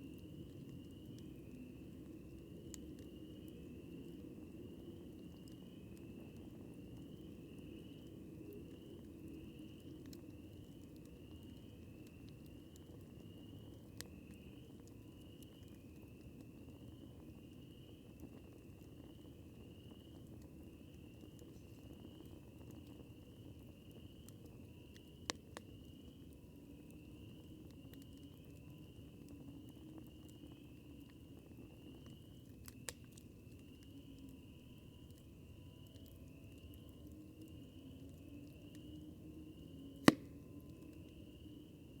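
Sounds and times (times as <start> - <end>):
campfire crackling: 0.0 - 42.0.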